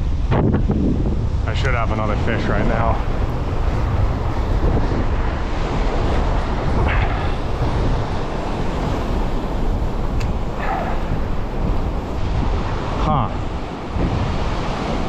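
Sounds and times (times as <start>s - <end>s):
heavy surf breaking: 0.0s - 15.0s
strong wind buffeting microphone: 0.0s - 15.0s.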